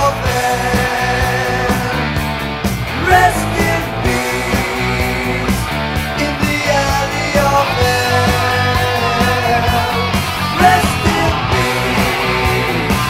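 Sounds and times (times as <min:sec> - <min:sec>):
heavy metal band playing: 0:00.0 - 0:13.0.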